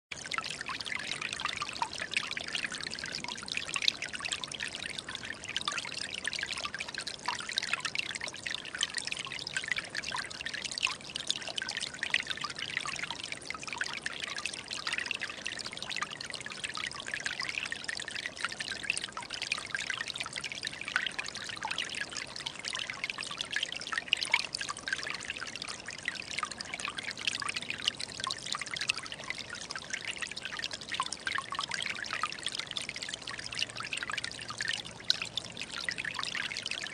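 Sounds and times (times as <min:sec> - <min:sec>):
stream trickling and babbling: 0:00.1 - 0:36.9.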